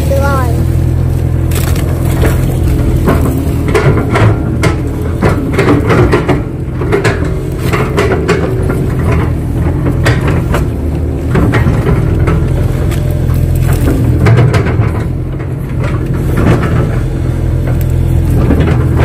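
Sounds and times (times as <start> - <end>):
excavator diesel engine running: 0.0 - 19.0
machine knocks and clanks: 1.4 - 19.0.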